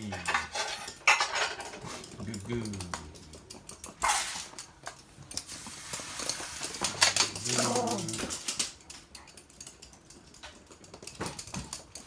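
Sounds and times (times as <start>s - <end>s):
dogs clicking and scuffling: 0.0s - 12.0s.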